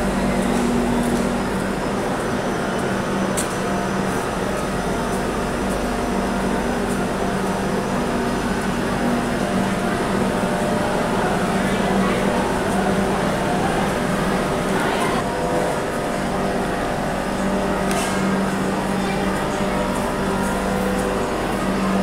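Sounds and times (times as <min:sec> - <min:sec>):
train mechanical hum: 0:00.0 - 0:22.0.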